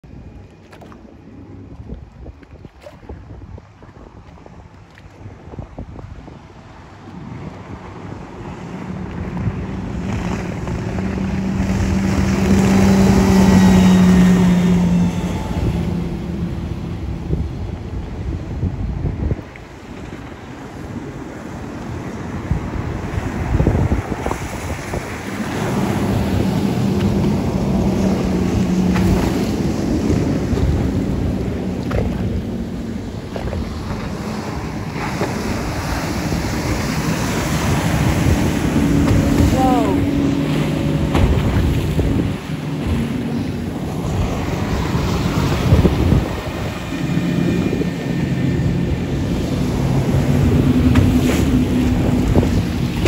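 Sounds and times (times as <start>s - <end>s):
outboard engine drone: 0.0s - 53.0s
water rushing: 0.0s - 53.0s
wind buffeting microphone: 0.0s - 53.0s.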